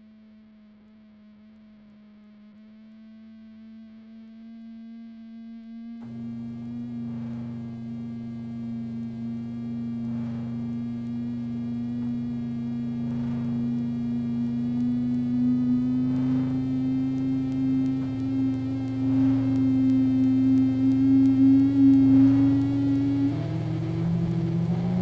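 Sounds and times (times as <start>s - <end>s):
low droning hum: 4.0s - 25.0s.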